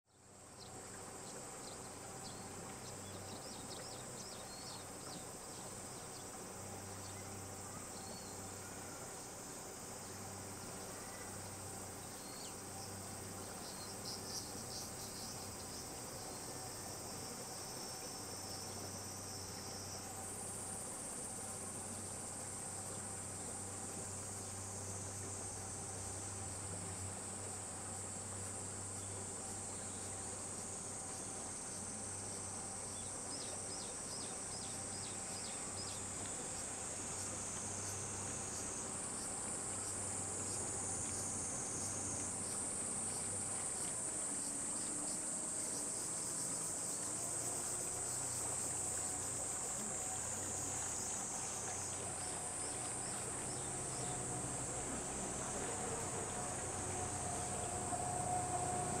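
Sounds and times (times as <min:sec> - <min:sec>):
high-pitched insect chorus: 0:00.1 - 0:59.0.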